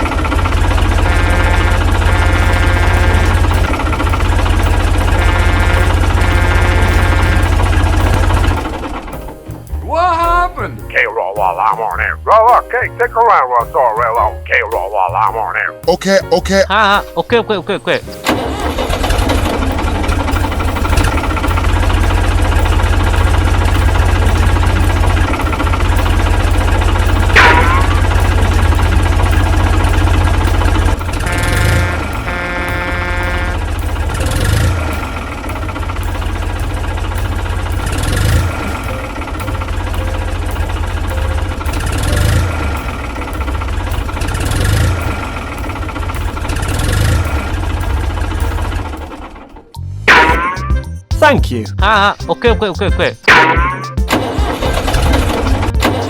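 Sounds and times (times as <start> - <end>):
mini-tractor engine knocking: 0.0 - 9.5, 18.2 - 49.6, 51.8 - 56.0.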